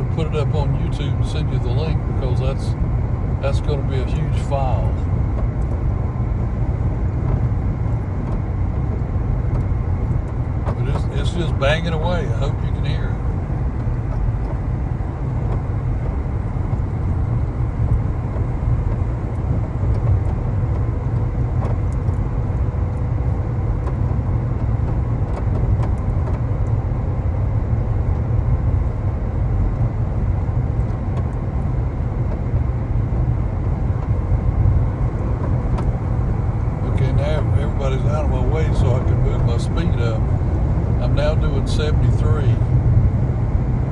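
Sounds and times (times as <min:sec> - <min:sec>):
road rumble: 0:00.0 - 0:43.9.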